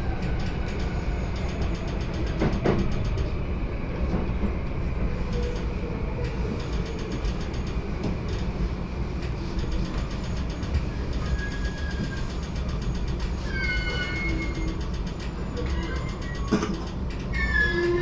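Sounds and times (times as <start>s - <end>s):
train wheels rumbling: 0.0s - 18.0s.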